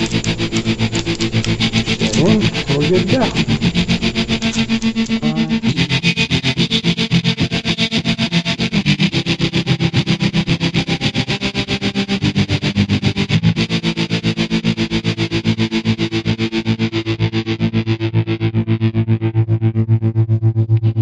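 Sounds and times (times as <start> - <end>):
distorted electric guitar: 0.0 - 21.0.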